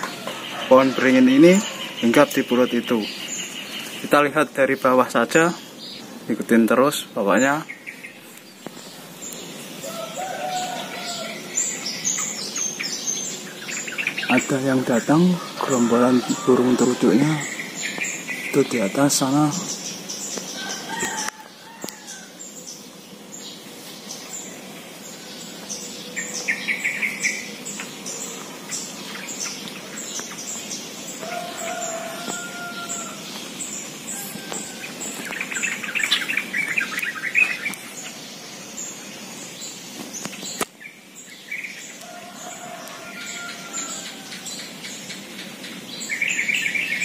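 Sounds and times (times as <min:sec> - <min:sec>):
birds bubbly chattering: 0:00.0 - 0:47.0.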